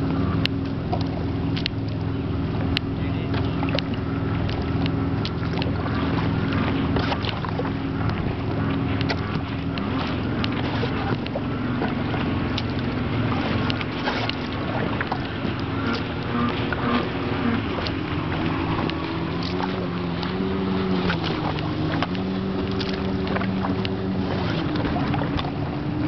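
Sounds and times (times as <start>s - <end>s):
paddle splashing water: 0.0s - 26.0s
steady low hum: 0.0s - 26.0s.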